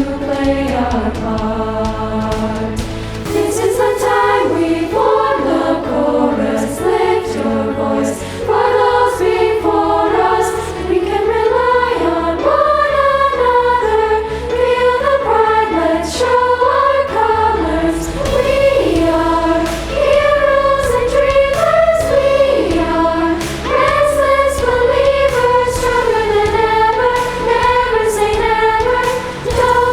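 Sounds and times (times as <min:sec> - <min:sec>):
girls' choir singing: 0:00.0 - 0:29.9
sustained low accompaniment: 0:00.0 - 0:29.9.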